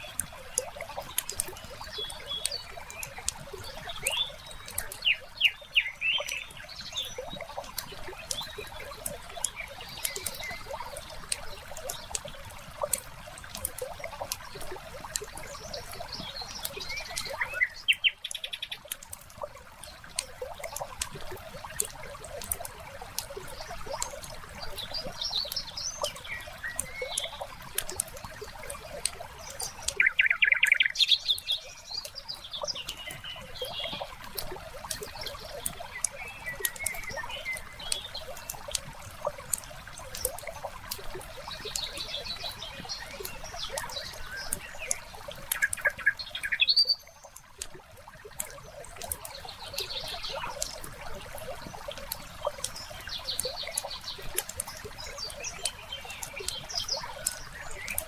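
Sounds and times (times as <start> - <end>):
birds chirping: 0.0 - 58.0
water trickling: 0.0 - 58.0.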